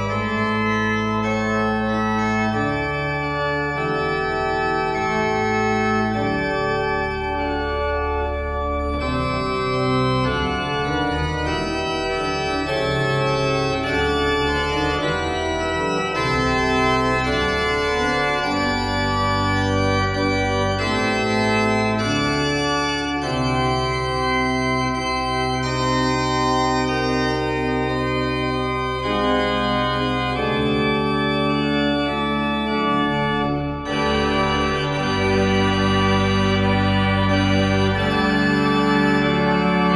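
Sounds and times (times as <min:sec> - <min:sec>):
pipe organ playing chords: 0:00.0 - 0:39.9.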